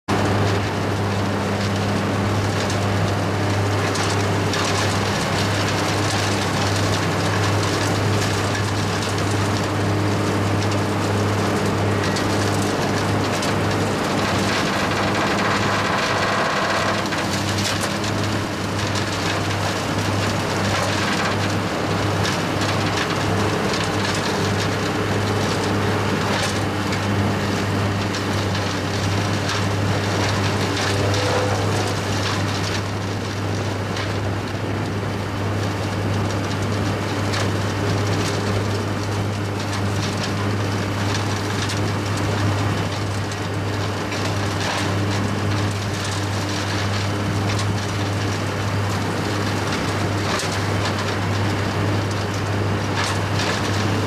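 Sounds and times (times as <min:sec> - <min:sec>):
grinder engine drone: 0:00.0 - 0:54.0
wood crackling and clattering: 0:00.1 - 0:54.0.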